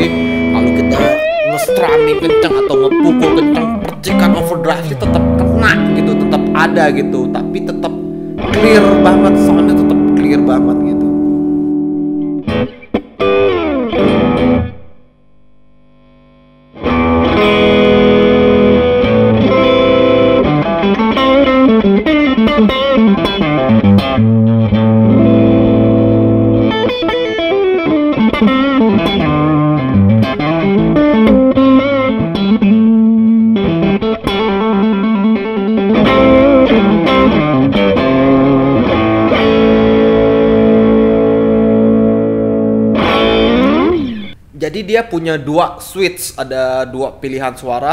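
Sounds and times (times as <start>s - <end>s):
overdriven electric guitar: 0.0s - 44.5s.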